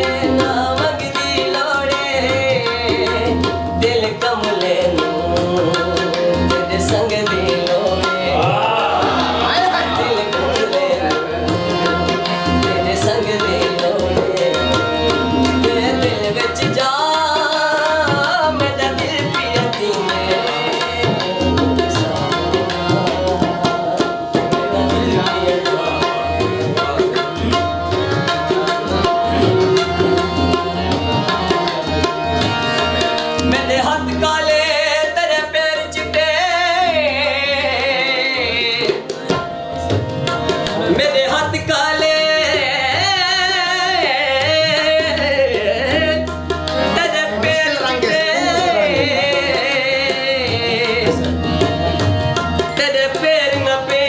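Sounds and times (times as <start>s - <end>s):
held accompaniment notes: 0.0s - 54.0s
man singing: 0.0s - 54.0s.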